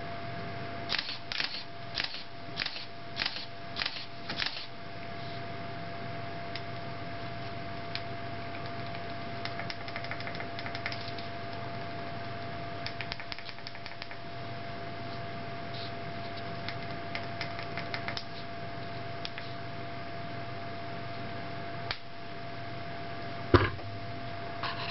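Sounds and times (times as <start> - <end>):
steady hum with thin whine: 0.0 - 24.9.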